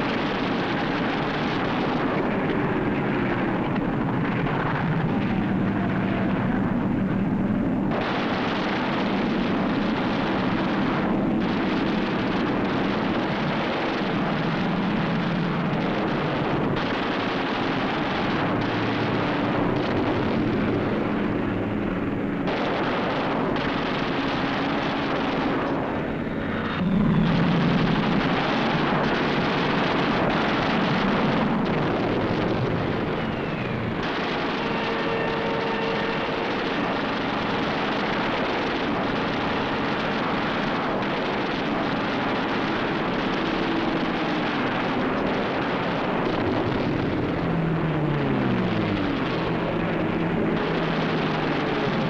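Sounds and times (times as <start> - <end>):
piston plane engines droning: 0.0 - 52.0.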